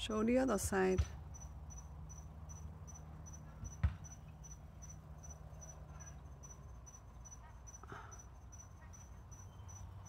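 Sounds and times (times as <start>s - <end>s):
insect chirping: 1.3s - 10.0s.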